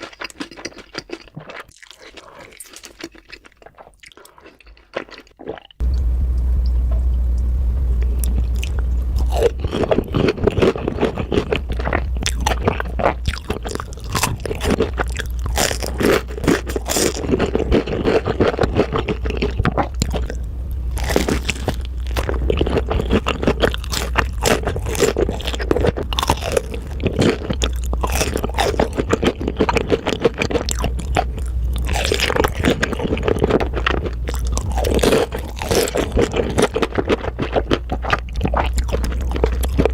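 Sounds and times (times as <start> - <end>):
crunching and chewing crisp food: 0.0 - 6.0, 8.0 - 39.9
steady low hum: 5.8 - 39.9.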